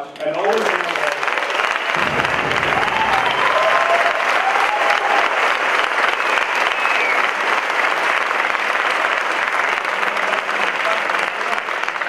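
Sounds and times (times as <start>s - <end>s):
audience applauding: 0.4s - 12.0s.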